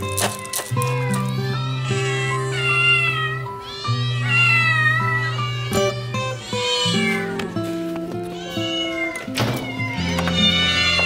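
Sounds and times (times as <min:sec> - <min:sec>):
cats meowing: 0:00.0 - 0:11.0.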